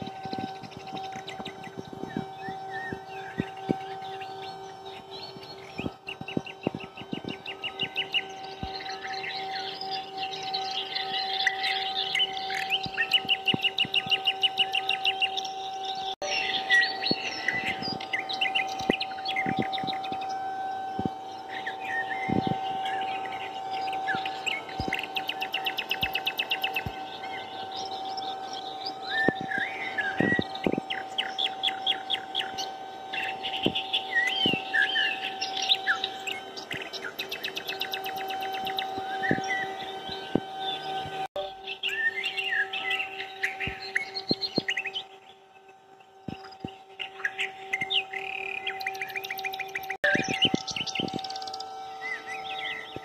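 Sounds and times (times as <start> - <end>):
small birds chirping and twittering: 0.0 - 53.0
songbirds singing: 0.0 - 53.0
steady high-pitched tone: 0.0 - 53.0
steady hum: 0.0 - 53.0.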